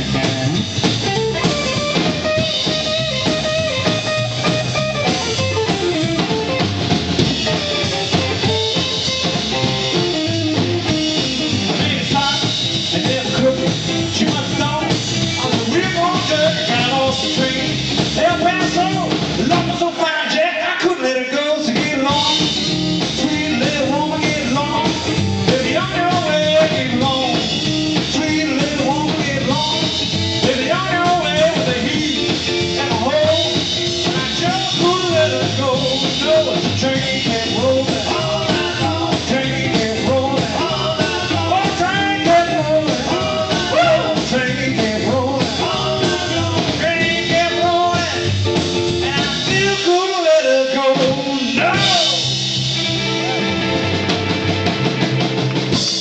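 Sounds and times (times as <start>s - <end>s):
rockabilly band playing live: 0.0s - 56.0s.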